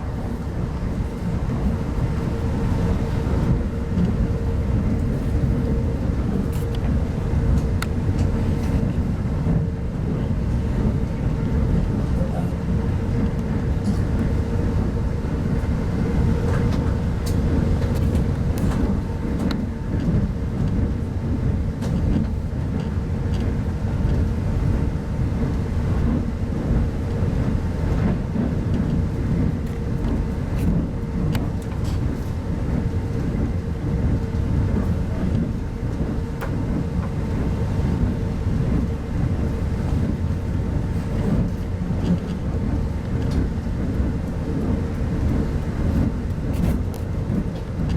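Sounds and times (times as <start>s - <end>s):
train coach rumbling on track: 0.0s - 47.9s.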